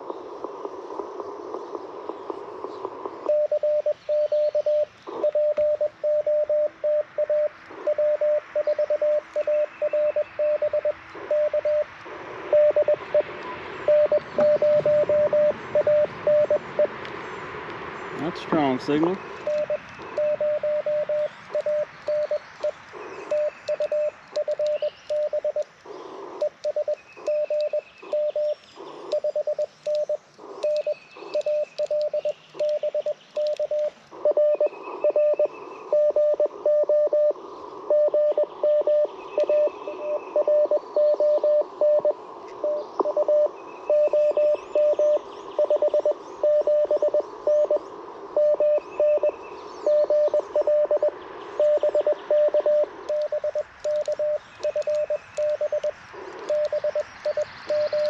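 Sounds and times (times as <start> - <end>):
shortwave radio hiss: 0.0 - 58.0
fainter higher-pitched morse signal: 3.2 - 17.0, 18.2 - 25.6, 26.4 - 58.0
morse code tone: 3.3 - 16.9, 18.2 - 25.6, 26.4 - 47.8, 48.4 - 58.0.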